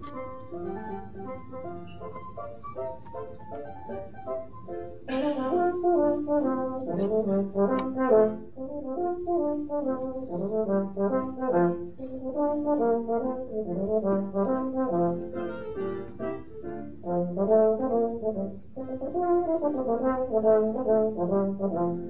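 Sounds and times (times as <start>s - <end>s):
solo brass instrument melody: 0.0s - 22.0s.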